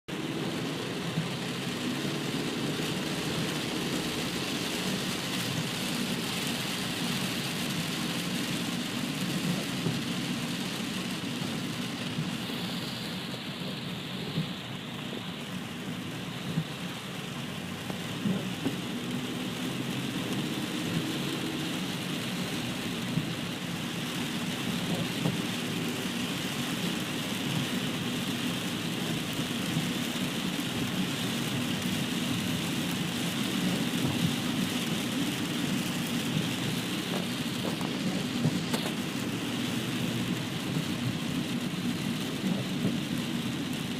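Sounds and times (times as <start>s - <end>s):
car tyres on wet road: 0.0s - 43.9s
rain falling on a car: 0.1s - 43.9s.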